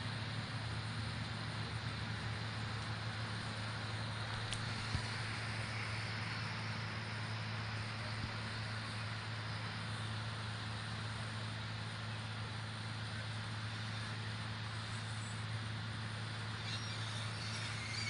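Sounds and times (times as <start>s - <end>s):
outdoor noise: 0.0s - 18.0s
vehicle engines idling: 0.0s - 18.0s.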